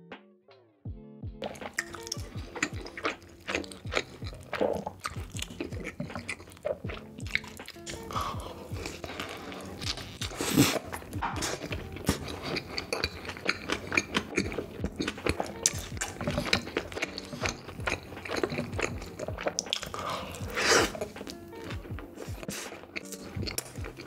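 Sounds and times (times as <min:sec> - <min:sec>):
chewing and biting: 0:01.4 - 0:24.0.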